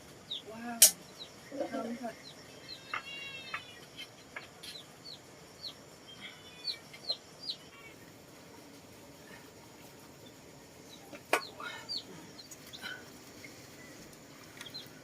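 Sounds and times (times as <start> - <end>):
chickens peeping: 0.2 - 15.0.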